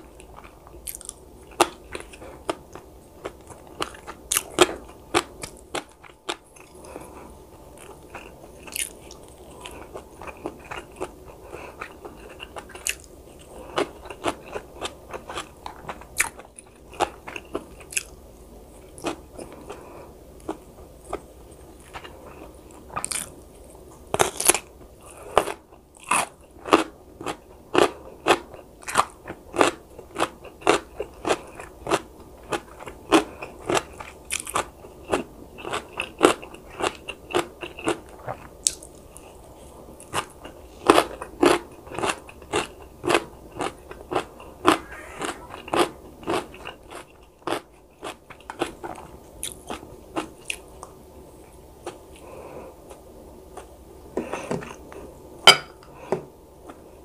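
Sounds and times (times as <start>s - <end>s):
crunchy chewing: 0.0s - 55.1s.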